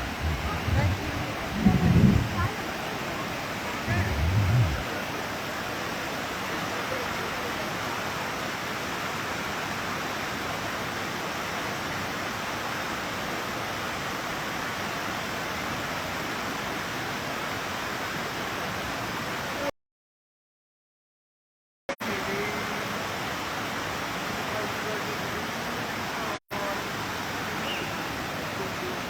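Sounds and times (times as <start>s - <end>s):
rushing flowing water: 0.0s - 19.7s, 22.0s - 29.0s.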